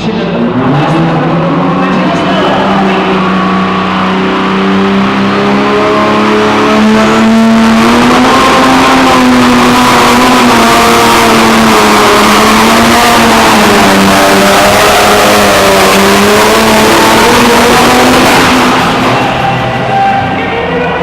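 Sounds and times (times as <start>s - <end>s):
tractor engine at high revs: 0.0s - 21.0s.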